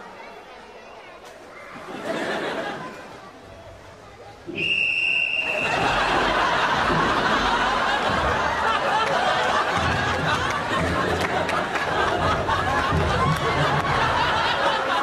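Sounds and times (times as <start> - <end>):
audience laughing: 1.8 - 3.3, 4.5 - 15.0.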